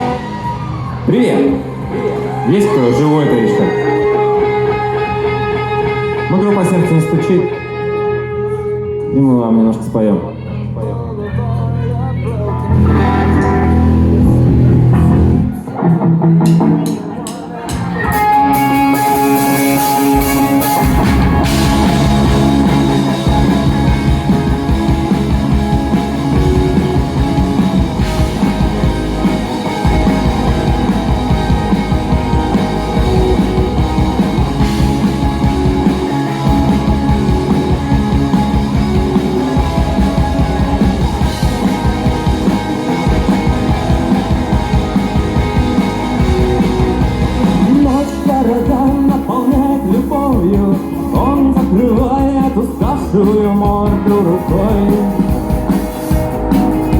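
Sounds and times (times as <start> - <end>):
drum kit: 0.0 - 6.3, 12.5 - 56.9
bass guitar: 0.0 - 56.9
electric guitar: 0.0 - 56.9.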